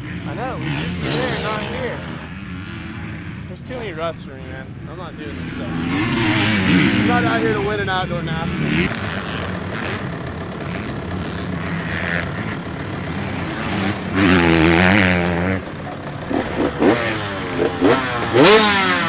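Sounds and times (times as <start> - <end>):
dirt bike engines running: 0.0 - 19.0.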